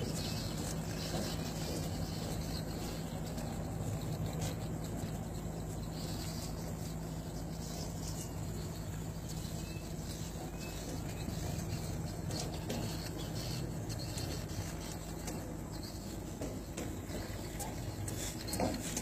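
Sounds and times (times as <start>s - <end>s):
ship engines droning: 0.0s - 19.0s.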